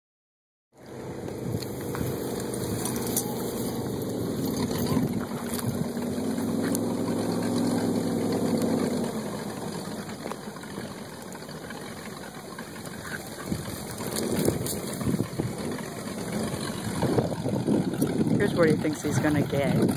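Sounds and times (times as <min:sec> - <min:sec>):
jet boat engine passing: 0:00.8 - 0:19.9.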